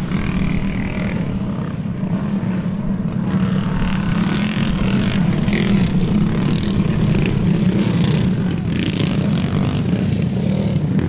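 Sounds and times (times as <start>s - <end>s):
wind buffeting microphone: 0.0s - 9.9s
small racing engines buzzing: 0.0s - 11.0s.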